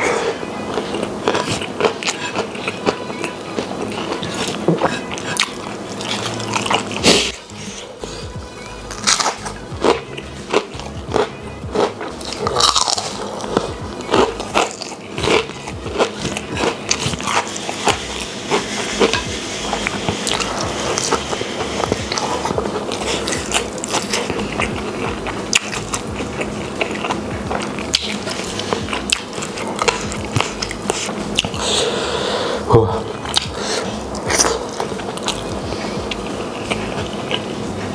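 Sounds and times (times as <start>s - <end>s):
person chewing crunchy food: 0.0s - 32.3s, 33.0s - 37.9s.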